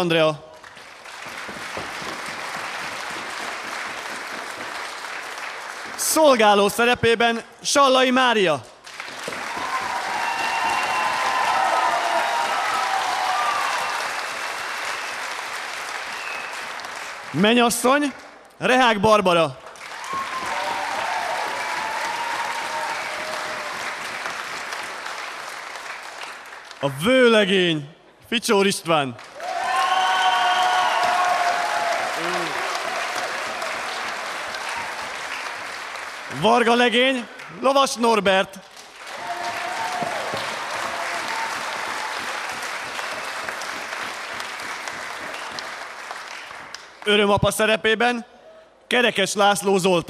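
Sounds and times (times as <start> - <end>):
audience applauding: 0.6 - 6.8, 8.8 - 18.0, 19.6 - 26.9, 29.2 - 47.3.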